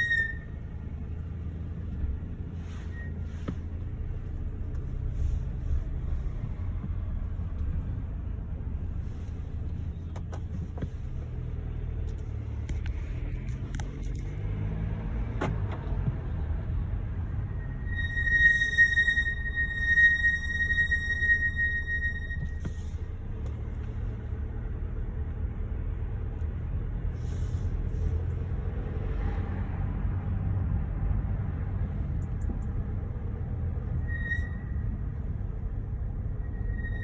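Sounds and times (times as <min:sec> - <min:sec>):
car driving slowly: 0:00.0 - 0:37.0.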